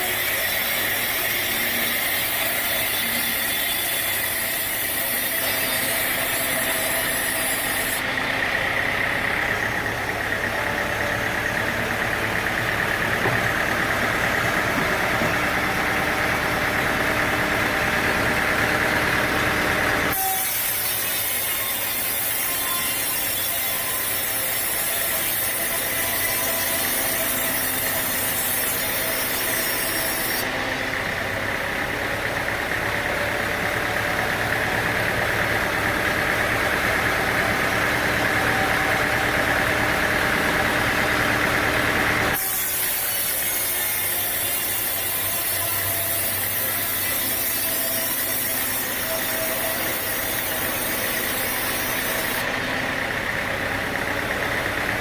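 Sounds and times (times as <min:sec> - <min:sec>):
sawmill machinery sawing logs: 0:00.0 - 0:55.0.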